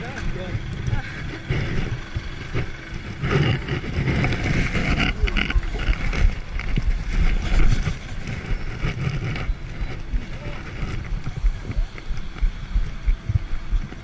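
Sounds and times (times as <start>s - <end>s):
street traffic noise: 0.0s - 14.0s
wind rumble on microphone: 0.0s - 14.0s.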